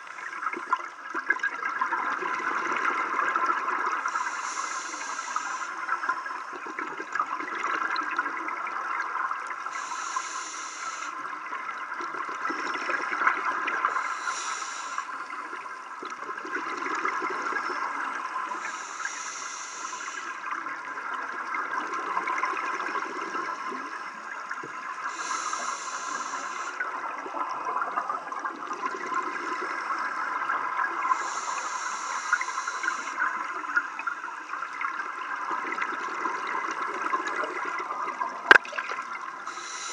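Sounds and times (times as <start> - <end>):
crackling water noise: 0.0 - 39.9
exhaled bubbles underwater: 0.0 - 39.9.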